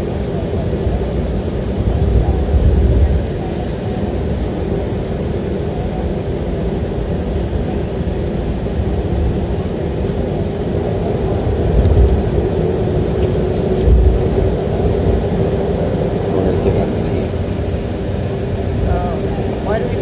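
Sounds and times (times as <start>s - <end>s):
jet cabin engine rumble: 0.0s - 20.0s.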